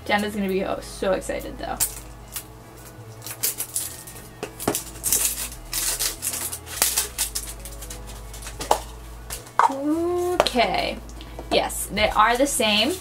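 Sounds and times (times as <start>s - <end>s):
plastic film crinkling: 1.7s - 13.0s.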